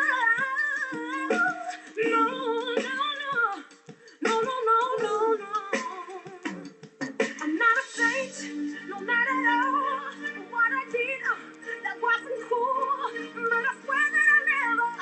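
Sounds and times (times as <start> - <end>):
woman singing vocal runs: 0.0 - 6.5, 7.4 - 15.0.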